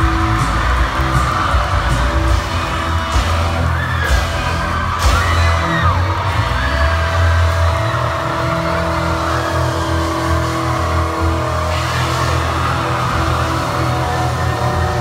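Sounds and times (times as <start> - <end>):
crowd cheering and screaming: 0.0 - 15.0
live pop-rock band: 0.0 - 15.0.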